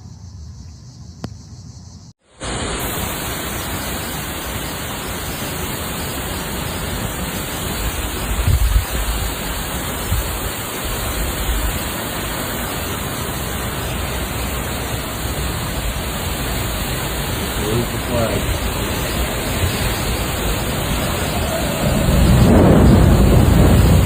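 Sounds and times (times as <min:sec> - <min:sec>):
heavy rain hissing: 0:02.2 - 0:24.0
wind gusts on microphone: 0:04.3 - 0:24.0.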